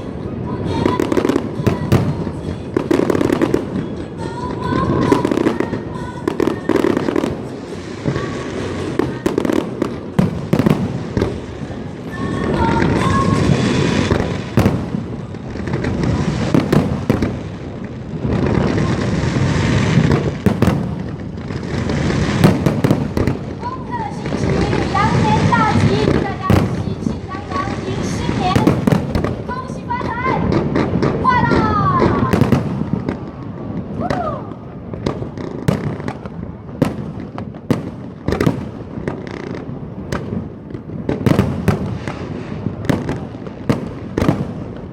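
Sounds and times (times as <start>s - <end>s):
fireworks bangs: 0.0s - 44.9s
fireworks rumble and crackle: 0.0s - 44.9s.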